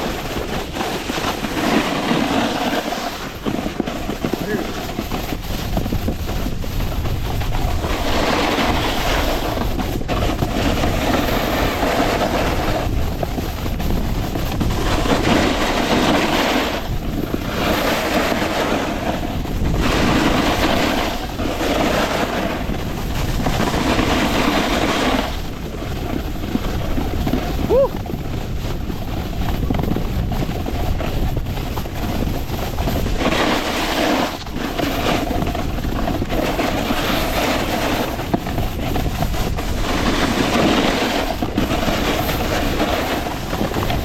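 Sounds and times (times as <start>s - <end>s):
snowboard scraping on snow: 0.0s - 44.0s
wind rumble on microphone: 0.0s - 44.0s.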